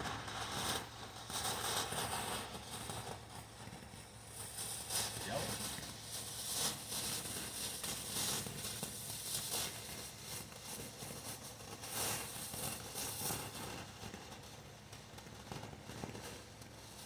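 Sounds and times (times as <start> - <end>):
firework fountain hissing: 0.0 - 17.0.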